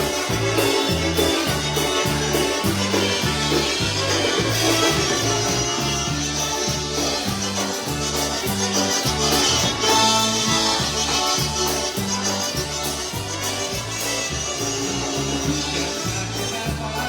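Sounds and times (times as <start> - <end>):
accordion melody: 0.0 - 17.0
oom-pah bass line: 0.0 - 17.0
polka band playing: 0.0 - 17.0.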